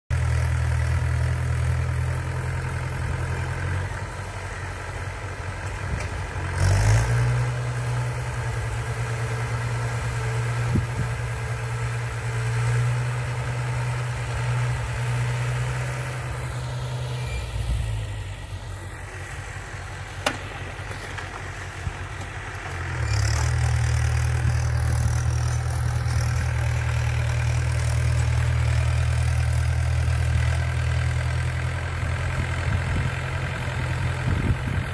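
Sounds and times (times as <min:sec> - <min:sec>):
tractor diesel engine droning: 0:00.1 - 0:34.9.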